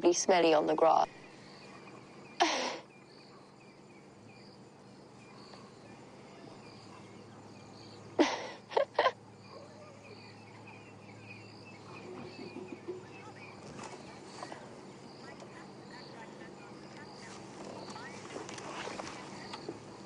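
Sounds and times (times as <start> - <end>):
faint insects chirping: 0.0 - 20.0
low steady hum: 0.0 - 20.0.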